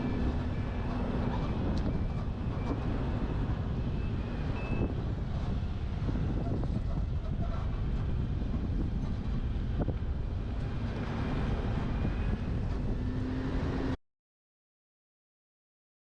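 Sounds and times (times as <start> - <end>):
truck road and engine noise: 0.0 - 14.0
wind rushing over camera: 0.0 - 14.0.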